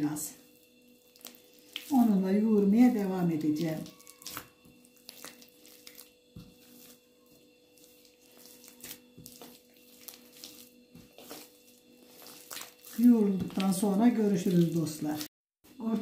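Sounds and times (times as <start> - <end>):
hands kneading dough: 0.0 - 16.0.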